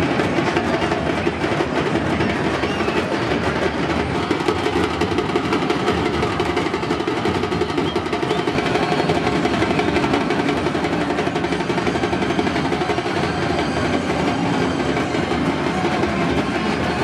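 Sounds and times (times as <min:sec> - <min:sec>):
fast dense drumming: 0:00.0 - 0:17.0
large crowd din: 0:00.0 - 0:17.0.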